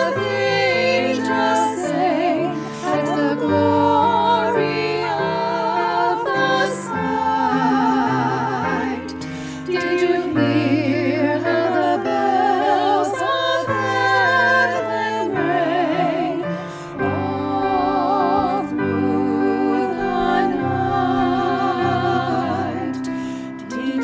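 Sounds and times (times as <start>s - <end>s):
women's vocal trio singing: 0.0s - 24.0s.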